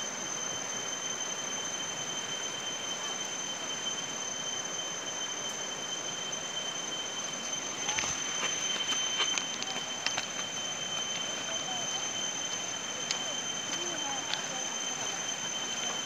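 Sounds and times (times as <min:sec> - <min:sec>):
shrill insect drone: 0:00.0 - 0:16.0.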